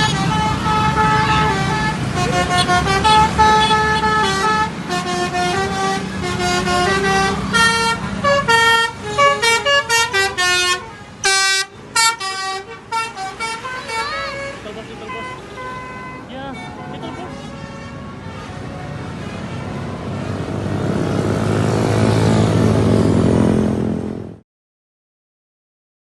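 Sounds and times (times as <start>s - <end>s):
multi-tone bus horn melody: 0.0s - 21.0s
bus engine running: 0.0s - 24.4s.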